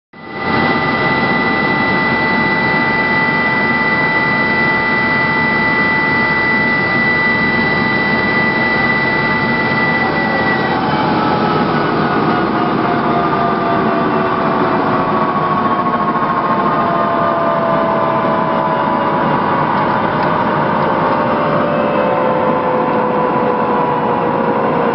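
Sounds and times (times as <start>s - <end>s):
helicopter turbine engines whining: 0.2s - 24.9s.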